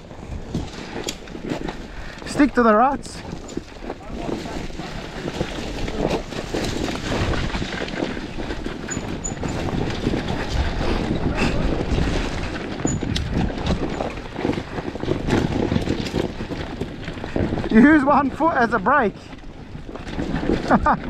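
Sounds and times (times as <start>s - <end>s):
bike knocking over rough ground: 0.0s - 18.5s, 19.2s - 21.0s
dirt bike engine running low: 0.0s - 21.0s
wind noise on microphone: 0.0s - 21.0s.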